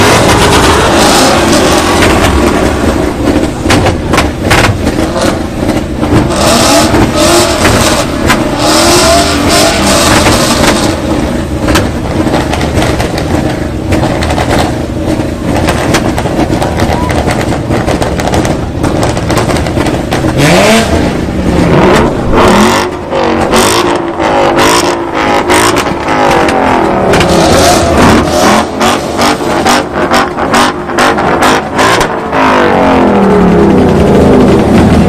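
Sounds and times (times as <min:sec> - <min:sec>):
car engine revving hard: 0:00.0 - 0:14.6, 0:15.9 - 0:35.0
exhaust pops and crackles: 0:00.0 - 0:35.0.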